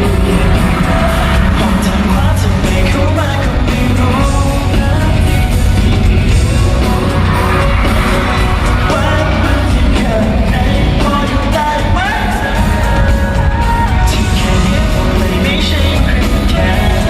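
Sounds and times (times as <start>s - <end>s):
crowd yelling along: 0.0s - 17.0s
live pop band playing: 0.0s - 17.0s
person singing: 0.0s - 17.0s.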